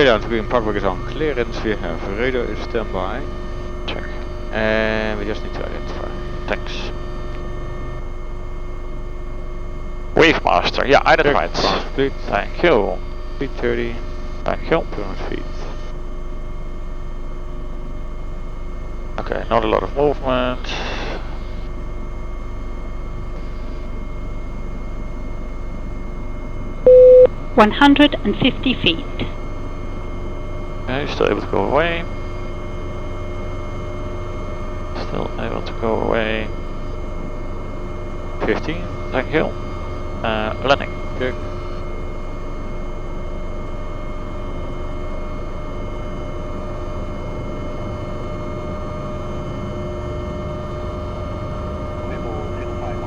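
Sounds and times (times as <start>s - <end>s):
faint whining tones: 0.0s - 53.0s
helicopter rotor and turbines droning: 0.0s - 53.0s.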